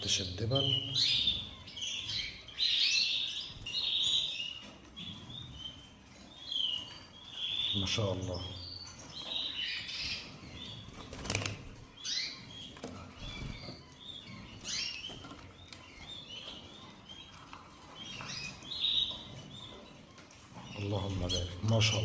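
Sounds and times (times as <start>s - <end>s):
canaries chirping: 0.0s - 22.0s.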